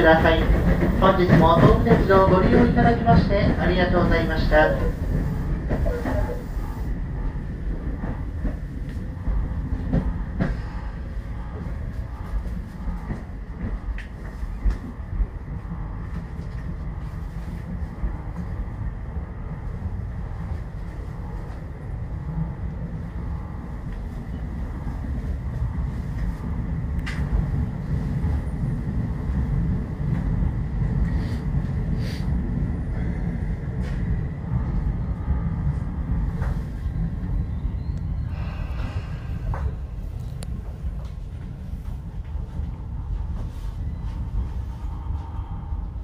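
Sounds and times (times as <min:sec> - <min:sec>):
electric train rumbling: 0:00.0 - 0:46.0.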